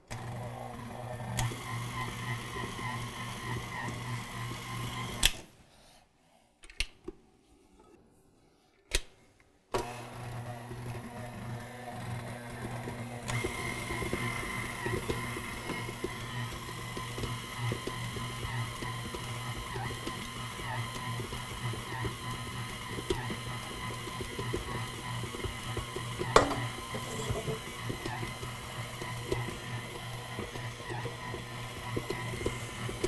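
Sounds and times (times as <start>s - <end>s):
stand mixer motor humming: 0.1s - 5.2s, 9.8s - 33.0s.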